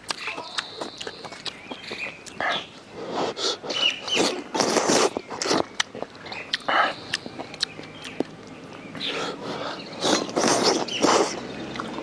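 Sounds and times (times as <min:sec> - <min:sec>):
chewing mouth noises: 0:00.0 - 0:12.0.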